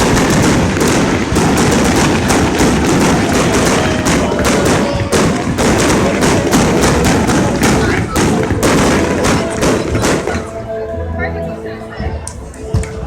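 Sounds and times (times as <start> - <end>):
fireworks bangs and crackles: 0.0 - 10.6.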